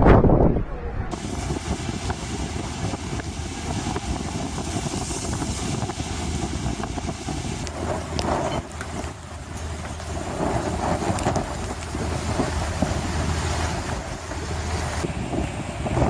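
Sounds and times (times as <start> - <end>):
storm wind buffeting microphone: 0.0 - 16.0
waves washing against quay: 1.1 - 16.0.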